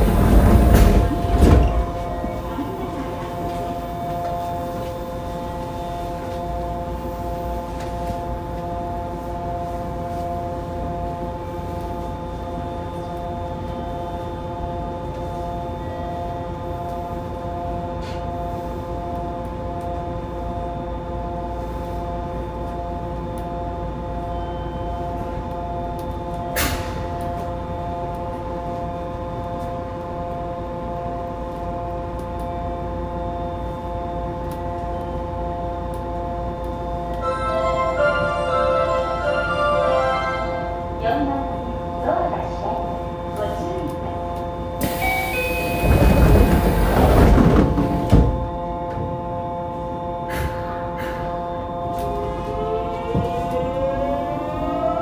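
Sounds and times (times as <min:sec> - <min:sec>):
train electrical equipment hum: 0:00.0 - 0:55.0.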